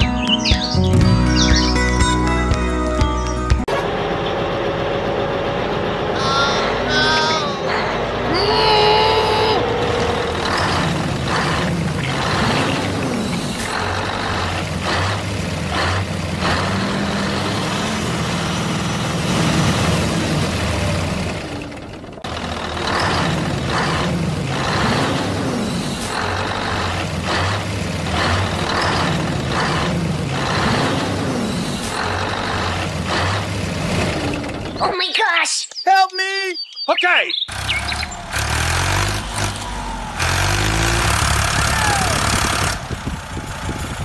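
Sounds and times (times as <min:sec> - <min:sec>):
heavy truck engine revving: 0:03.6 - 0:34.8, 0:37.5 - 0:44.0.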